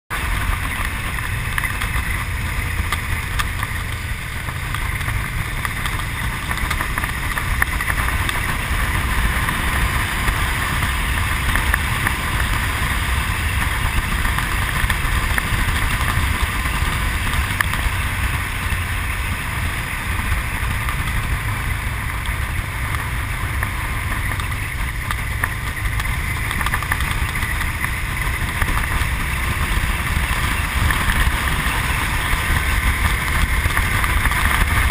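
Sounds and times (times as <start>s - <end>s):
motorcycle engine running: 0.1s - 34.9s
wind rush on microphone: 0.1s - 34.9s.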